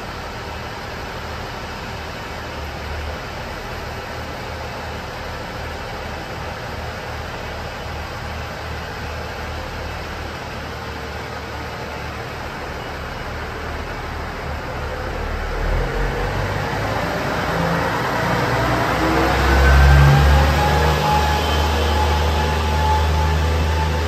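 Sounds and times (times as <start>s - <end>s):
diesel railcar engine running: 0.0s - 24.0s.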